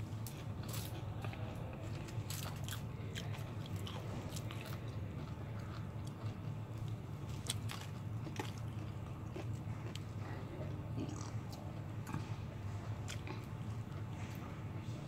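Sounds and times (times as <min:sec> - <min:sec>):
steady low hum: 0:00.0 - 0:15.0
person chewing crispy chicken: 0:00.1 - 0:14.5.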